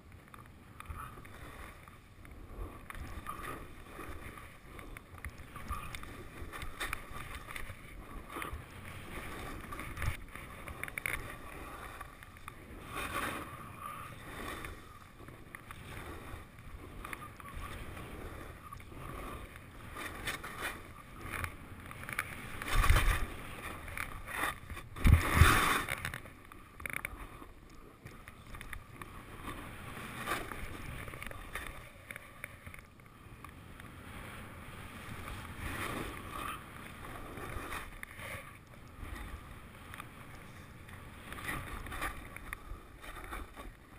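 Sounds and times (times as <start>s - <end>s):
skis scraping through snow: 0.8s - 32.4s, 34.1s - 43.9s.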